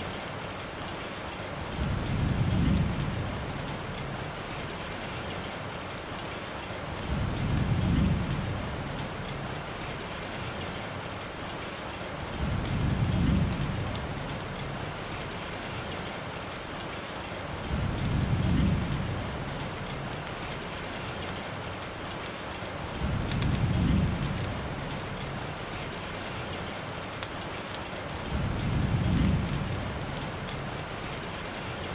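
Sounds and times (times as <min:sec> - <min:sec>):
steady rainfall: 0:00.0 - 0:31.9.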